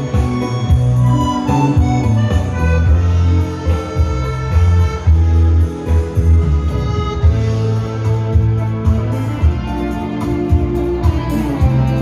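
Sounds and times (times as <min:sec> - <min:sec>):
bass notes in steady rhythm: 0:00.0 - 0:12.0
piano accordion playing dance music: 0:00.0 - 0:12.0.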